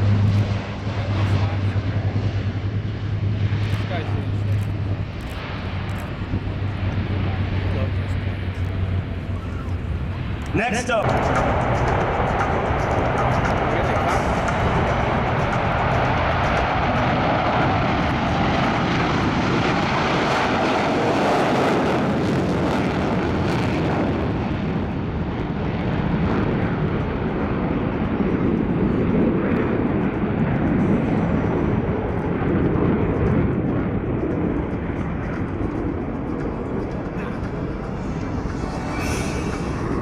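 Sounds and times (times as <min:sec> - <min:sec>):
aircraft engines overhead: 0:00.0 - 0:40.0.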